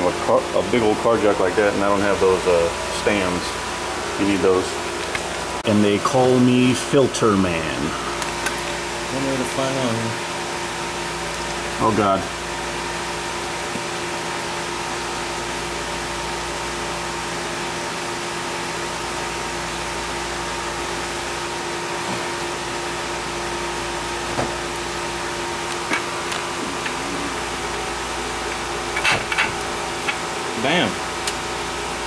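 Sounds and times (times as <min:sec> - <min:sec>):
mechanical hum and whir: 0:00.0 - 0:32.0.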